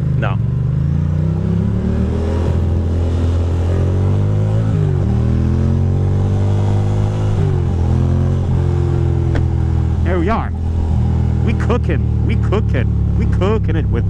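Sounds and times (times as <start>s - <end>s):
motorcycle accelerating through gears: 0.0s - 14.0s.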